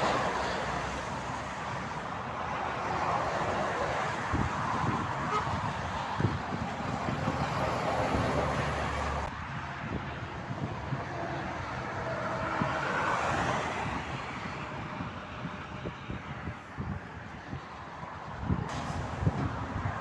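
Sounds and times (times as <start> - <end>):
motorway traffic passing at speed: 0.0 - 20.0.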